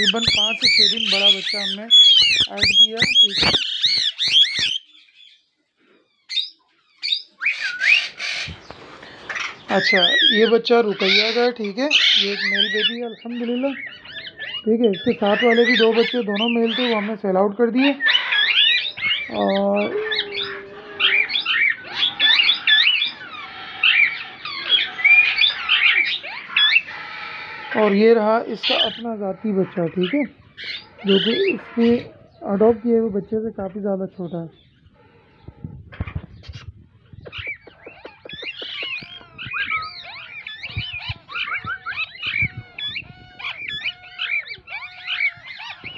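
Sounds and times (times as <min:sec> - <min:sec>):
parakeets chirping: 0:00.0 - 0:05.4, 0:06.1 - 0:45.9
parrots squawking: 0:00.0 - 0:05.4, 0:06.3 - 0:33.5, 0:34.6 - 0:45.9.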